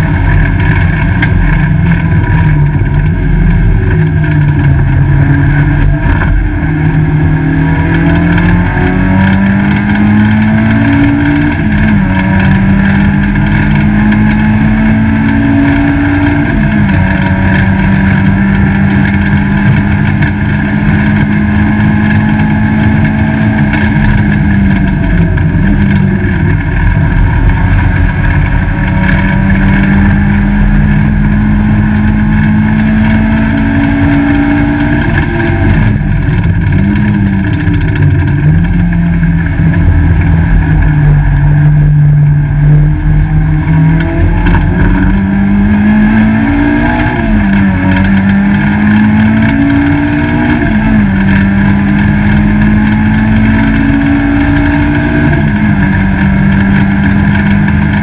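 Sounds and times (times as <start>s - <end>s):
race car engine accelerating: 0.0s - 58.0s
road and wind noise: 0.0s - 58.0s.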